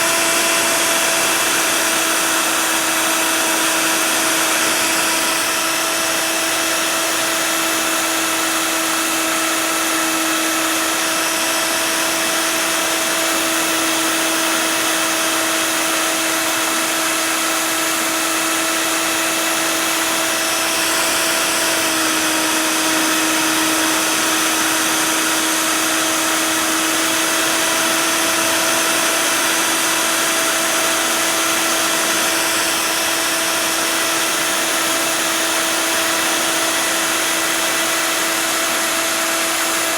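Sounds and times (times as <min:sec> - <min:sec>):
router spindle cutting plastic: 0:00.0 - 0:39.9.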